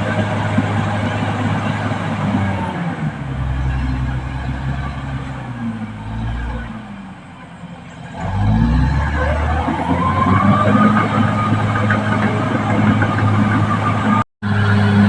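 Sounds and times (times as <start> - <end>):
bulldozer diesel engine revving: 0.0 - 15.0.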